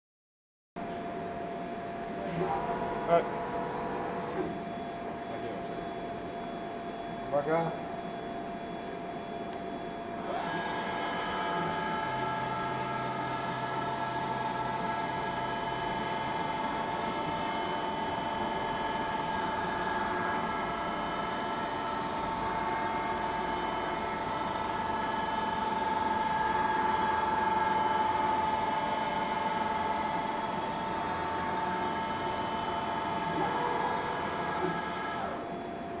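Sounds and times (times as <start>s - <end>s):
milling machine whine: 0.8s - 36.0s.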